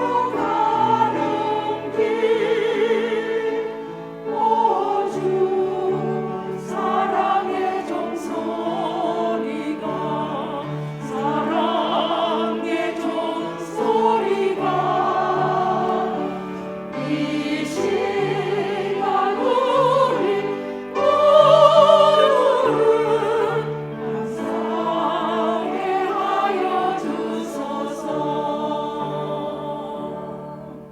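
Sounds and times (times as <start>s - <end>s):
church choir singing a hymn: 0.0s - 30.9s.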